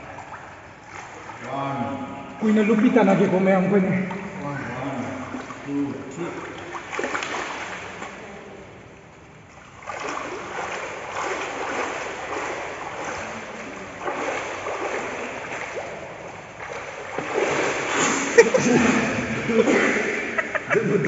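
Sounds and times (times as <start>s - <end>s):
water splashing in a pool: 0.0s - 21.0s.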